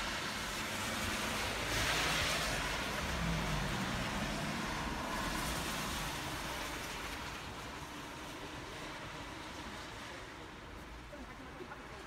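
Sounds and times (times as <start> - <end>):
tyres hissing on wet road: 0.0 - 12.0.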